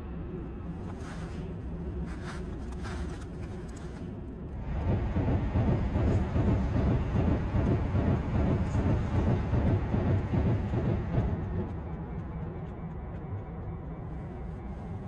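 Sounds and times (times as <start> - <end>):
train passing on tracks: 0.0 - 15.0.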